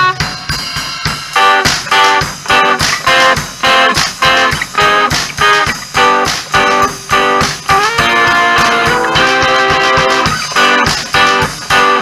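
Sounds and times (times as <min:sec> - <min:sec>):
drum kit playing: 0:00.0 - 0:12.0
strummed acoustic guitar chords: 0:00.0 - 0:12.0.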